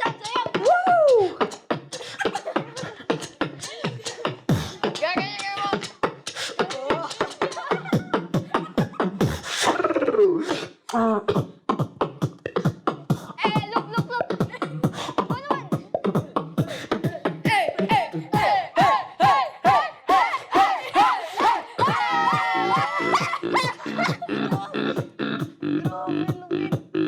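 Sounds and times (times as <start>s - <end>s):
person beatboxing: 0.0s - 27.0s
sliding vocal notes: 0.0s - 27.0s.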